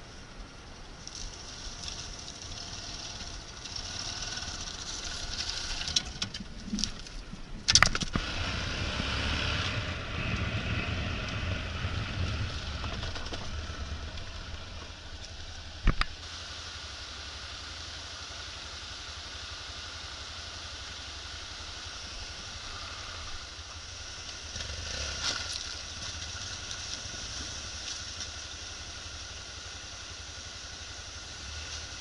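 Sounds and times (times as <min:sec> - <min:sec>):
motorcycle engine rumble: 0:00.0 - 0:32.0
steady hiss: 0:00.0 - 0:32.0.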